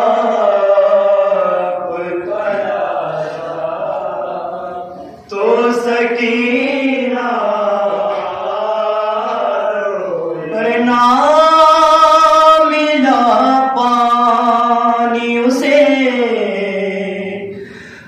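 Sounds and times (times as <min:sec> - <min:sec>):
men chanting unaccompanied: 0:00.0 - 0:17.5.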